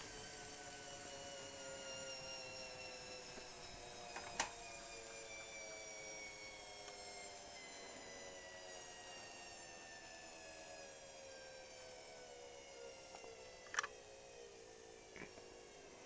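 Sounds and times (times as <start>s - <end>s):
washing machine whining: 0.0s - 16.0s.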